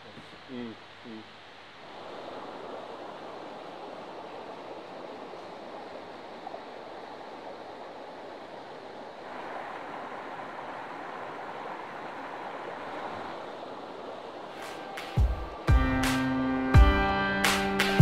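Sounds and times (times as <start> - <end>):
river flowing over stones: 0.3 - 16.4.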